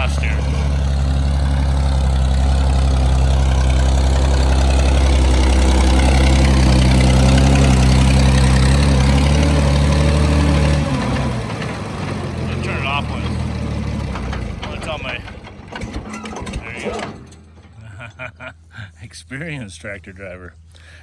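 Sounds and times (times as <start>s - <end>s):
tractor engine running: 0.0s - 20.8s.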